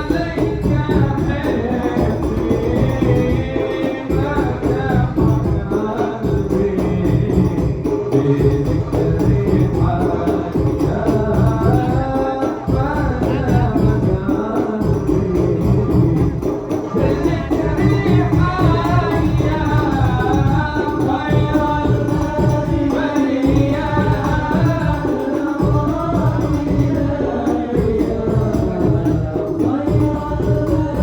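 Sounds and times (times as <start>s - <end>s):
frame drum: 0.0s - 31.0s
person singing: 0.0s - 31.0s.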